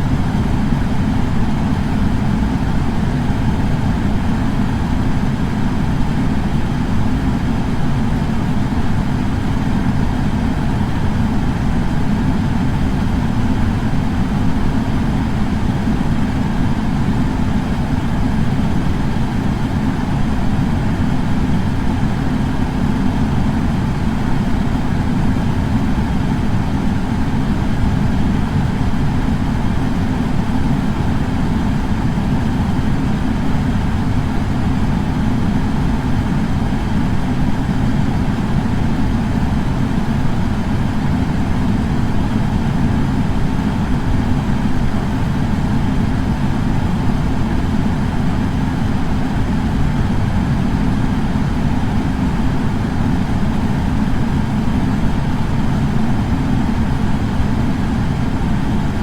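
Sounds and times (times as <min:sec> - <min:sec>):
air purifier fan running: 0:00.0 - 0:59.0.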